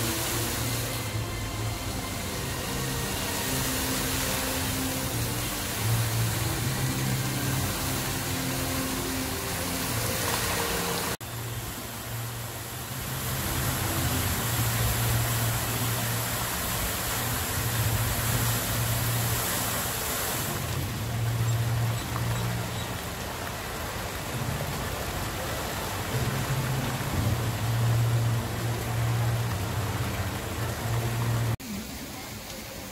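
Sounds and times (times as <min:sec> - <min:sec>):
fountain jets splashing into water: 0:00.0 - 0:32.9.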